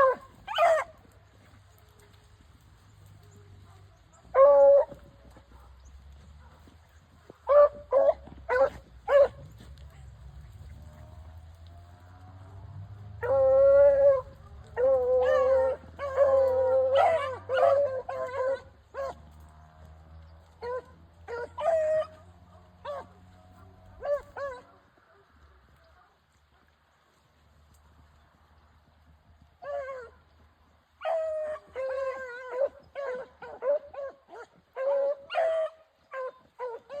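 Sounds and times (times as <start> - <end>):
hounds baying: 0.0 - 26.8, 29.3 - 37.0.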